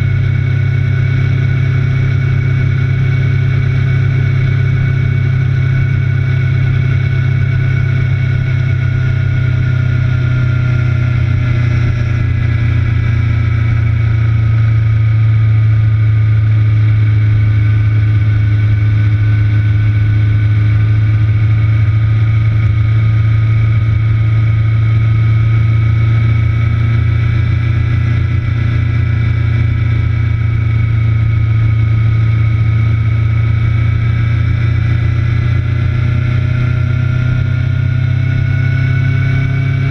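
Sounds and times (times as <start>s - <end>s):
race car engine and road noise: 0.0s - 39.9s.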